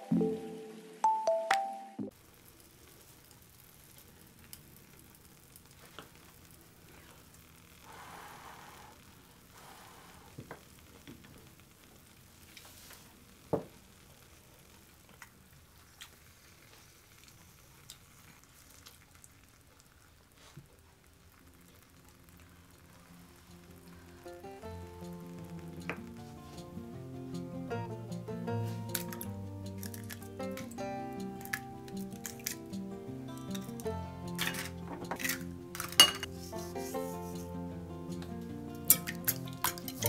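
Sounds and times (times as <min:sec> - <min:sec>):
egg sizzling in a stone pot: 0:02.1 - 0:40.0.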